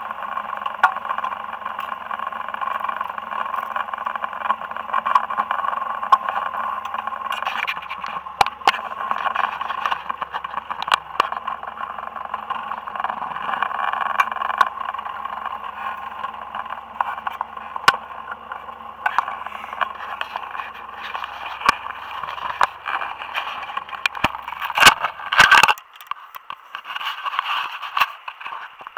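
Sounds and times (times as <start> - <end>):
boat motor running: 0.0 - 28.9
clicks and rattles: 0.6 - 28.9.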